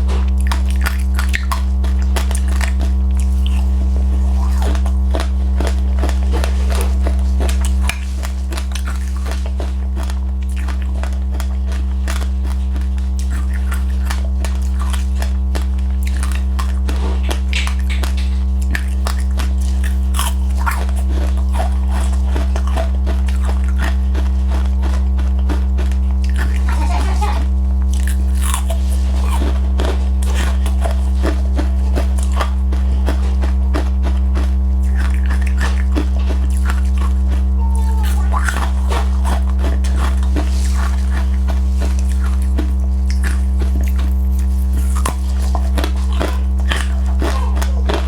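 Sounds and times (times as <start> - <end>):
crunching and chewing: 0.0 - 48.0
loud low hum: 0.0 - 48.0.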